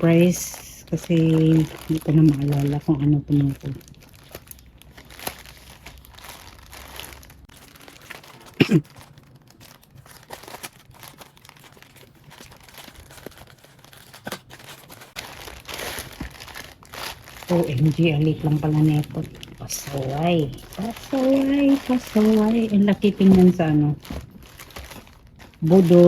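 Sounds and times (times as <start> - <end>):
plastic packaging crinkling and tearing: 0.0 - 26.0.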